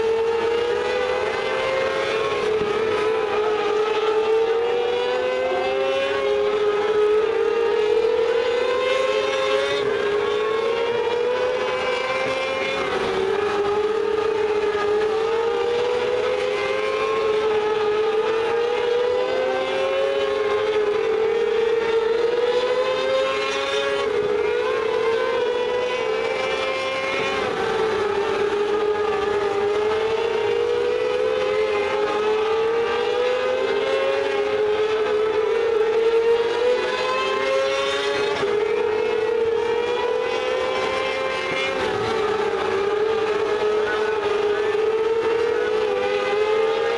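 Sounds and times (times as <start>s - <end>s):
race car engines at full throttle: 0.0s - 46.9s.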